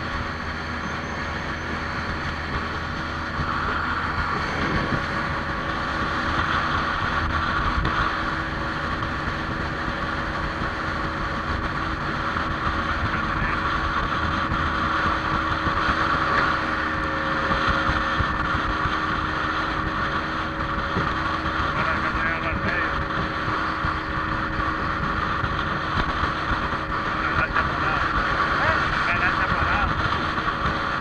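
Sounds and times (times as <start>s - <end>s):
motorboat engine drone: 0.0s - 31.0s
water rushing past hull: 0.0s - 31.0s
wind on microphone: 0.0s - 31.0s.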